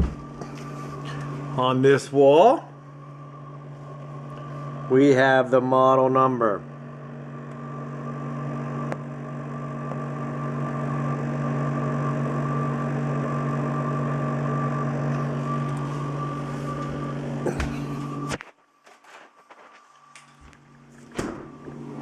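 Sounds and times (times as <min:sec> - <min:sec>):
high whine: 0:00.0 - 0:22.0.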